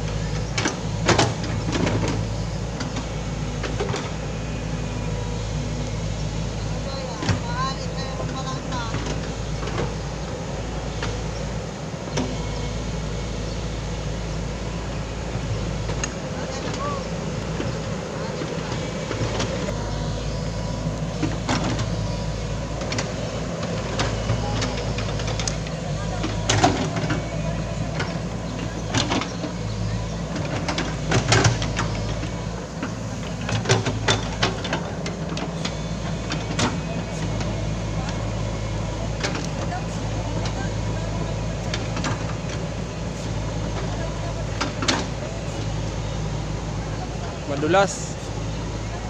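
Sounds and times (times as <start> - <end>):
bucket and tracks clanking: 0.0 - 49.0
excavator diesel engine running: 0.0 - 49.0.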